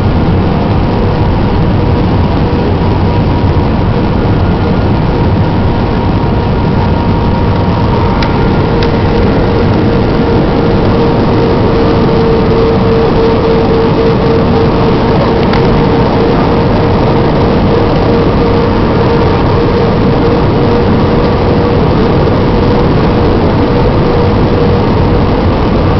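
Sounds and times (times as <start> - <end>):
aircraft engines and airflow roar: 0.0 - 25.9
steady whine: 0.0 - 25.9.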